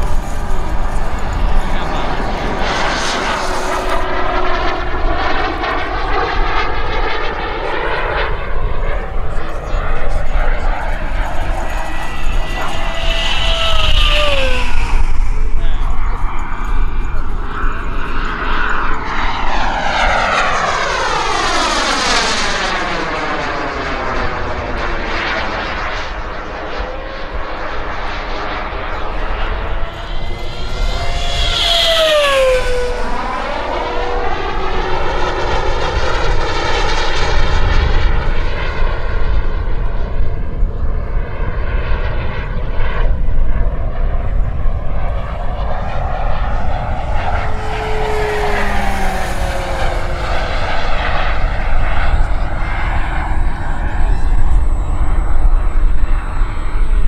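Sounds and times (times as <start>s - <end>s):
high whine dropping in pitch: 0.0s - 40.8s, 41.5s - 57.0s
jet turbine rushing whine: 0.0s - 57.0s.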